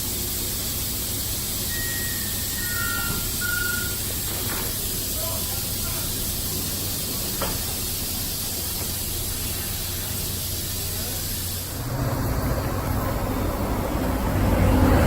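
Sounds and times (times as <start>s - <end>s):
steady hiss: 0.0s - 14.2s
low hum from train: 0.0s - 15.0s
train rumbling: 0.0s - 15.0s.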